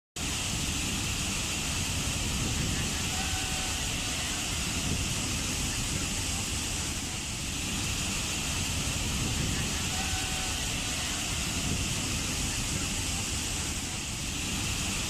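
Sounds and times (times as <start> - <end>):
waterfall rushing: 0.2 - 15.0.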